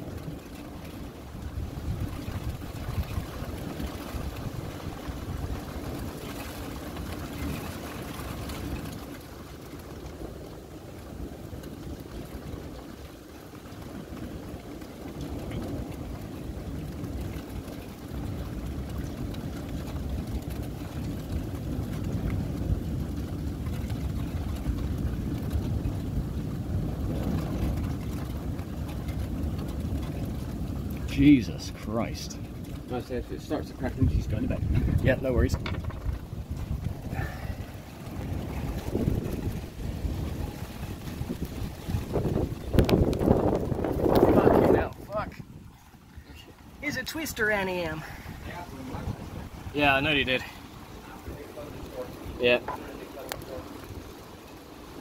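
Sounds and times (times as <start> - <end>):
thunder rumbling: 0.0 - 55.0
wind on microphone: 0.0 - 55.0.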